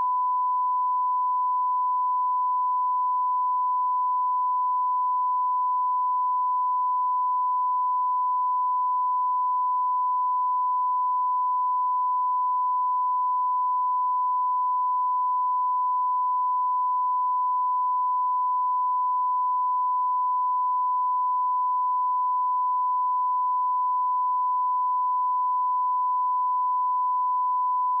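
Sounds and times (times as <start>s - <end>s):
steady sine-wave test tone: 0.0s - 28.0s.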